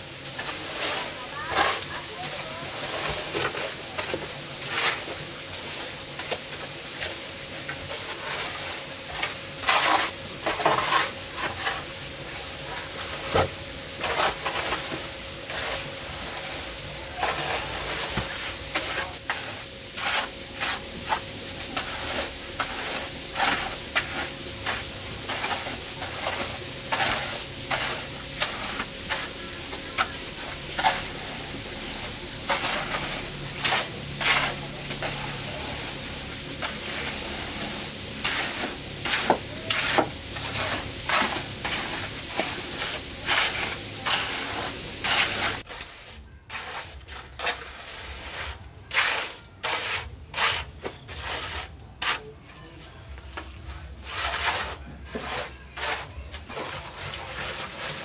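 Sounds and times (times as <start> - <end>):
trowel scraping wet mortar: 0.3 - 52.4, 53.4 - 58.0.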